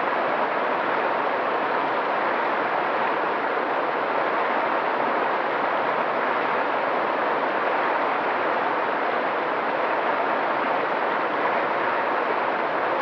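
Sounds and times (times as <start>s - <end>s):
stream flowing over rocks: 0.0s - 13.0s.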